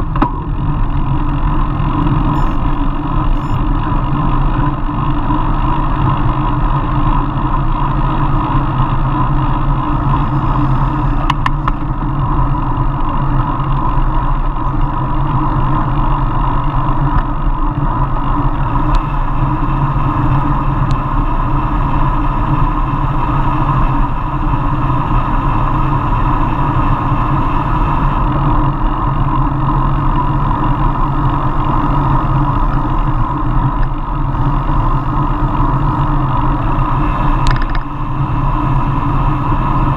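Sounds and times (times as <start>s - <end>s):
road rumble: 0.0s - 39.9s
wind noise: 0.0s - 39.9s.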